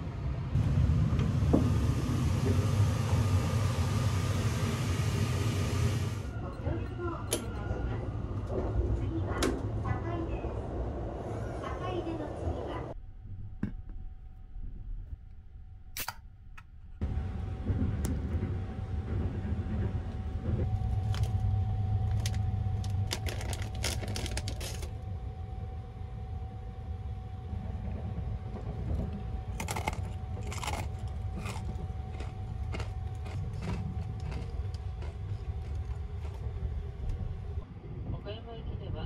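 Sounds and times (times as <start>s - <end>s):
train running rumble: 0.0s - 13.0s, 17.0s - 39.0s.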